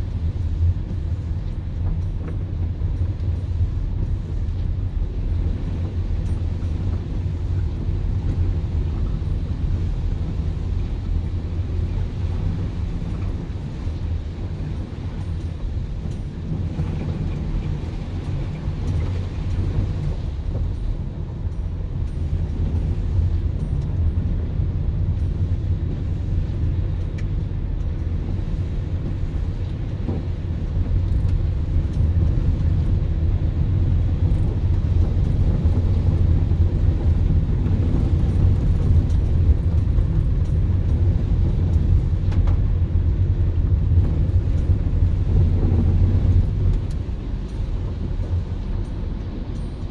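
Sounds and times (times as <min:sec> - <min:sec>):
car interior engine and tyre rumble: 0:00.0 - 0:49.9.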